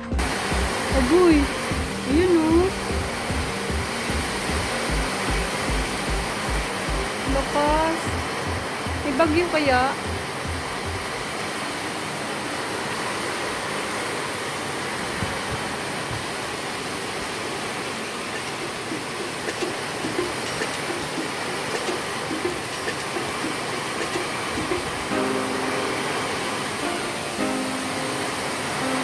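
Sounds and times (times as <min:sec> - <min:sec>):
heavy rain in gusting wind: 0:00.0 - 0:29.0.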